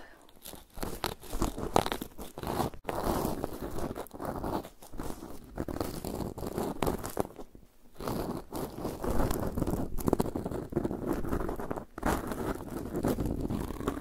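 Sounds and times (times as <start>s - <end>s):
cotton swab scratching microphone: 0.3s - 14.0s.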